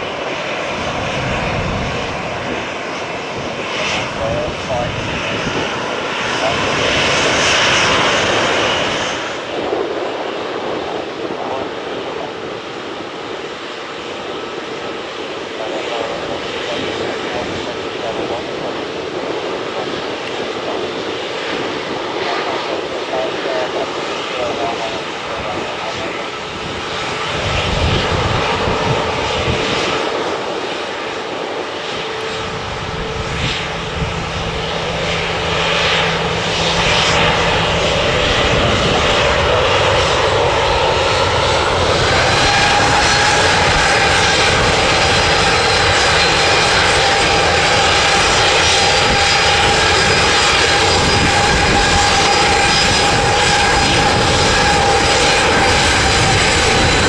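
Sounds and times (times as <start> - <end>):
jet engine whine: 0.0 - 57.0
jet engines rushing hum: 0.0 - 57.0.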